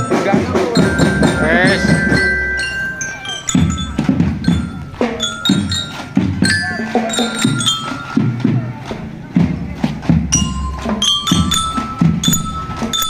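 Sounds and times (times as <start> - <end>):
glockenspiel melody: 0.0 - 8.8, 10.1 - 13.0
drum strokes: 0.0 - 13.0.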